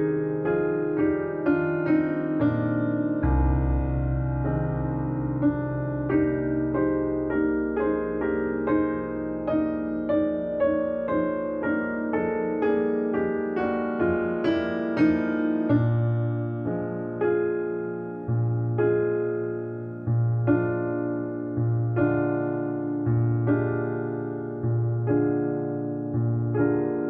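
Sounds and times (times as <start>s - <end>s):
slow piano melody: 0.0s - 27.0s.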